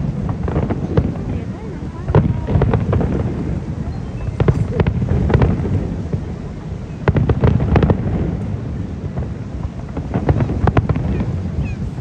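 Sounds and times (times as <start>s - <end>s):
fireworks bangs and crackles: 0.0s - 12.0s
fireworks rumble: 0.0s - 12.0s.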